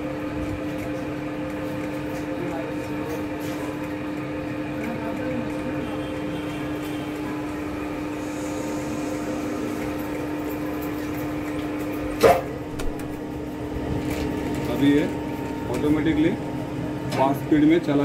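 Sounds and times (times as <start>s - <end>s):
dough mixer motor hum: 0.0s - 18.0s.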